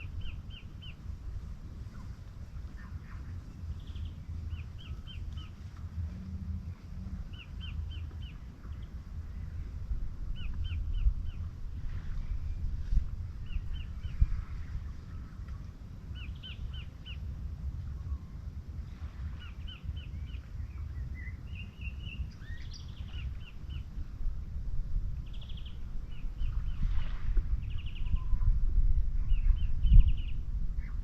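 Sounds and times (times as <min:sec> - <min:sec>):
small birds chirping: 0:00.0 - 0:11.6, 0:12.2 - 0:18.4, 0:19.3 - 0:24.0, 0:25.2 - 0:28.5, 0:29.2 - 0:31.0
low rumble: 0:00.0 - 0:31.0.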